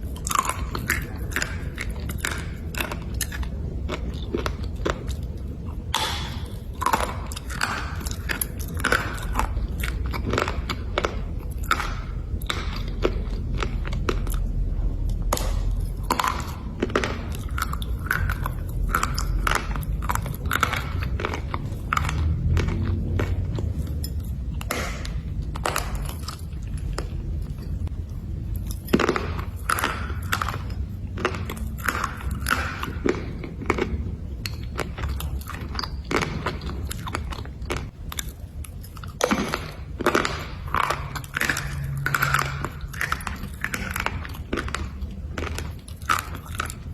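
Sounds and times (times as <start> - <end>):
person chewing slate crunches: 0.0 - 46.9.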